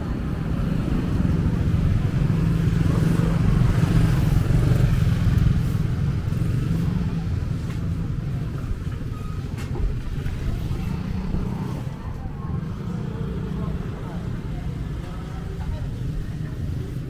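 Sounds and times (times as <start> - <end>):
motorcycle engine running: 0.5 - 17.0.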